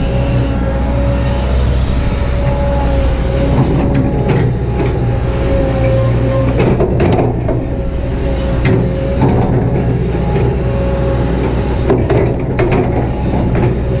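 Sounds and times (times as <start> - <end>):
excavator diesel engine: 0.0 - 14.0
hydraulic whine: 0.0 - 14.0.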